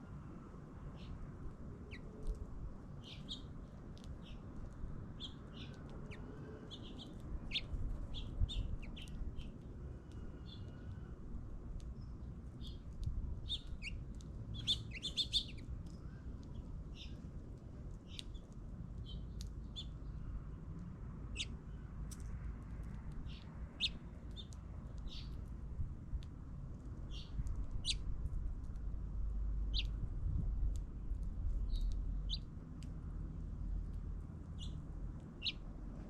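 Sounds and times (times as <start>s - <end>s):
small birds chirping: 0.9s - 1.2s, 1.8s - 2.4s, 3.0s - 25.6s, 27.0s - 28.9s, 29.6s - 30.0s, 30.6s - 35.7s
steady low rumble: 1.0s - 36.0s.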